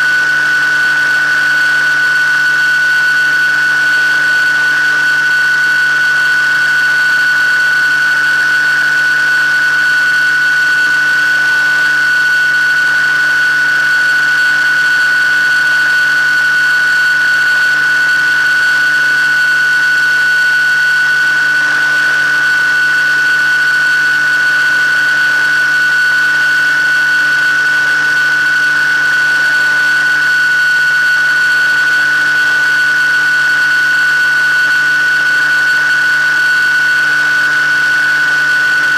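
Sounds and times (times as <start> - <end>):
electric motor high whine: 0.0 - 38.9.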